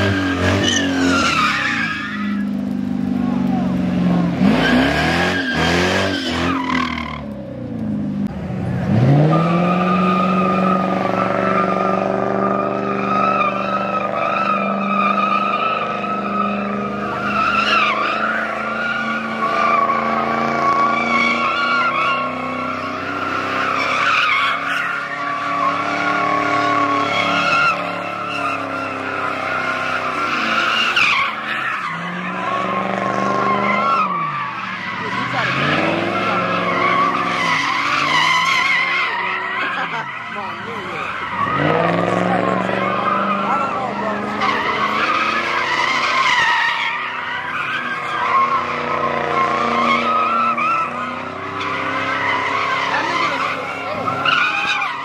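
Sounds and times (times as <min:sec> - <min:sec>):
tyres squealing: 0:00.0 - 0:07.3, 0:09.0 - 0:55.0
car engine at high revs: 0:00.0 - 0:55.0.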